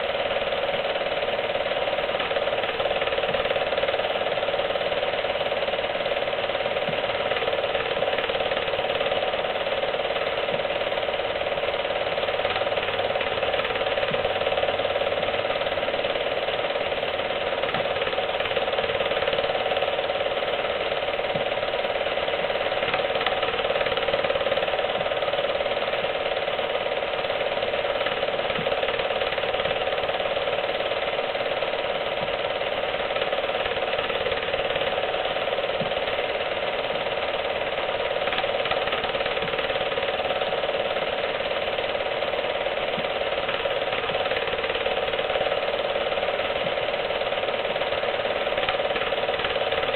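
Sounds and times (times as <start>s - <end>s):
film projector whirring: 0.0s - 49.9s.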